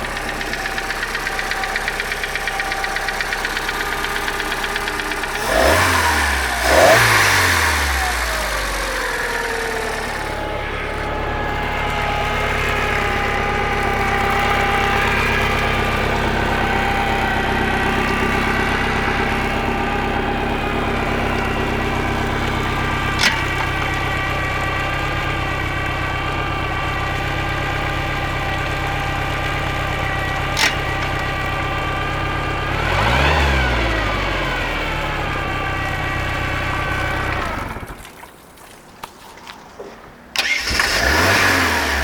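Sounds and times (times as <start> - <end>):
boat engine idling: 0.0 - 38.8.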